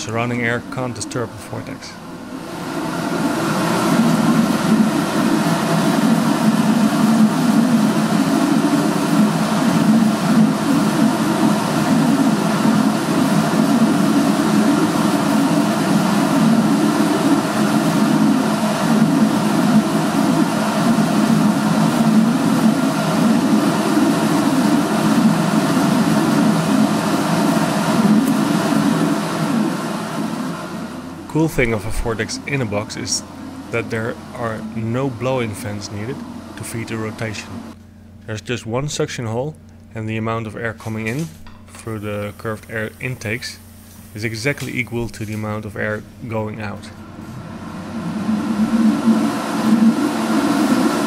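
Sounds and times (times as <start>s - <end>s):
duct fan rushing hum: 0.0s - 51.0s.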